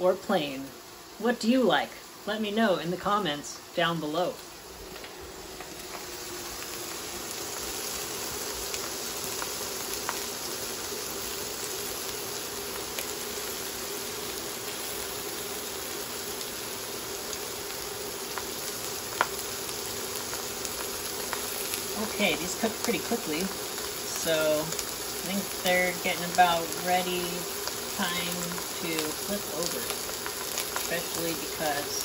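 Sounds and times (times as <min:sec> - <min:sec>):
meat sizzling in oil: 0:00.0 - 0:32.0
steady hum: 0:00.0 - 0:32.0.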